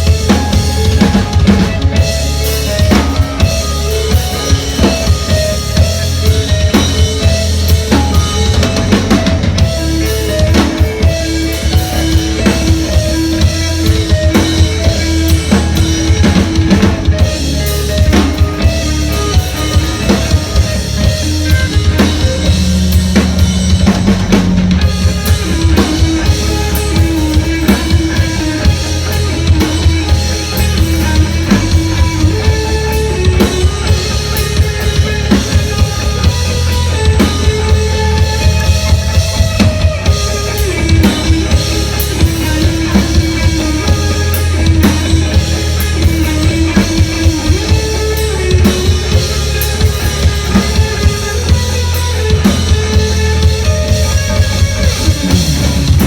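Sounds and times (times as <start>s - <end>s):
drum kit beat: 0.0s - 56.0s
heavy bass line: 0.0s - 56.0s
sustained synth or guitar notes: 0.0s - 56.0s.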